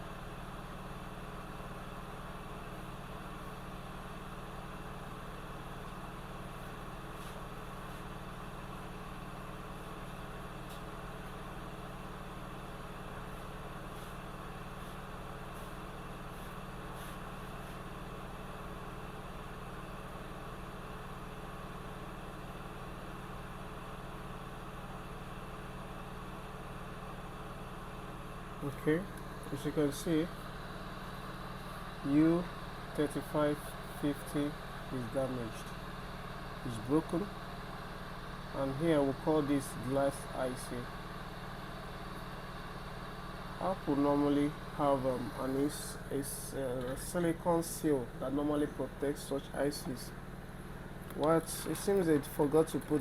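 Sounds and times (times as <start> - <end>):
mechanical hum with tones: 0.0 - 53.0.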